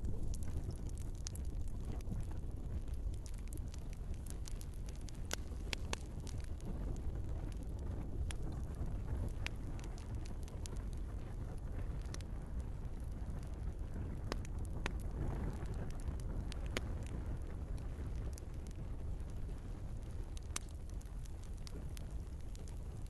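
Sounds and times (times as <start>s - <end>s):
low rumble of flames: 0.0s - 23.0s
wood crackling and popping: 0.0s - 23.0s.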